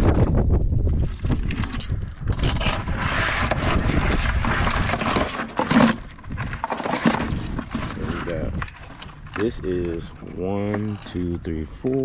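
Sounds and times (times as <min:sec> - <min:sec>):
crabs scraping in a plastic cooler: 0:00.9 - 0:11.4.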